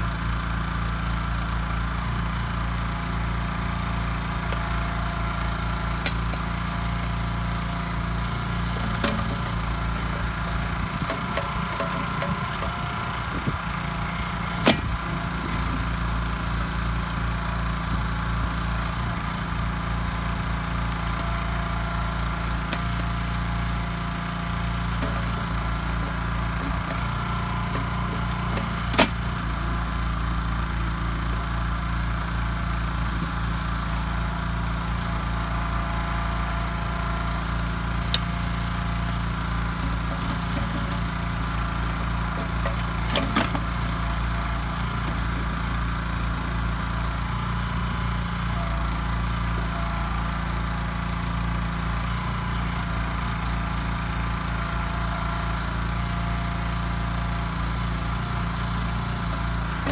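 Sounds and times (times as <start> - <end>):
backhoe engine running: 0.0 - 59.9.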